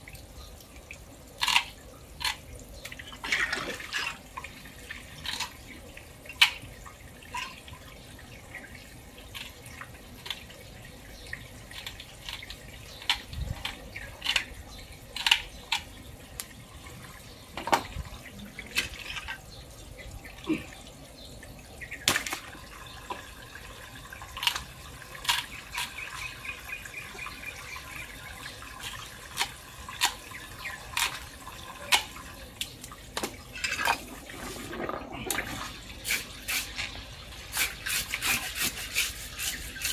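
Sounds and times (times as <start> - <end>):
water trickling on concrete: 0.0 - 39.9.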